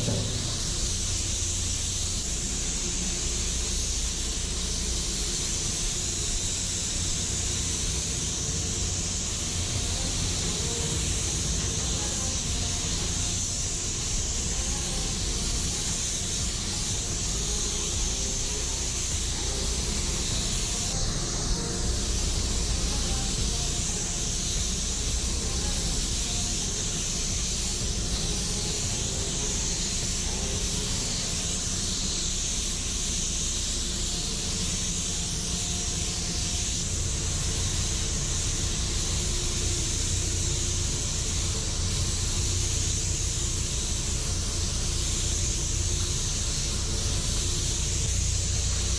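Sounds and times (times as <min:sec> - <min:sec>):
spray gun hissing: 0:00.0 - 0:48.9.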